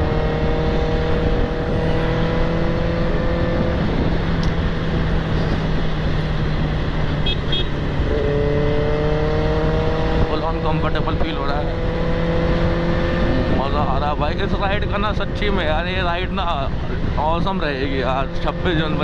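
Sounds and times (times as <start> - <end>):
motorcycle engine cruising: 0.0 - 19.0
wind rumble: 0.0 - 19.0.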